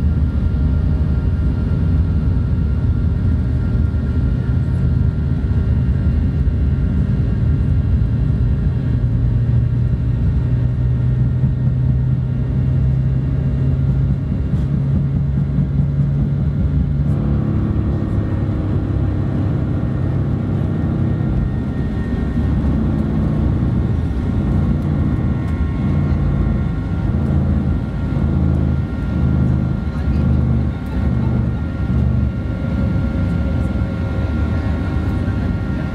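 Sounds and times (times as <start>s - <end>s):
airplane cabin rumble: 0.0s - 35.9s.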